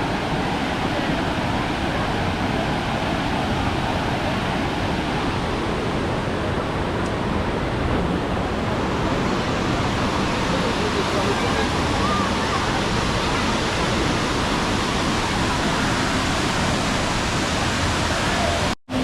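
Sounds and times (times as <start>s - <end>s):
rushing falling water: 0.0s - 19.0s.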